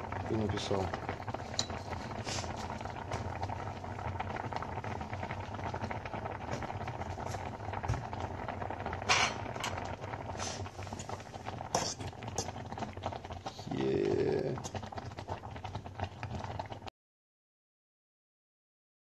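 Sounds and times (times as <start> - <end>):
water boiling in pot: 0.0 - 16.9.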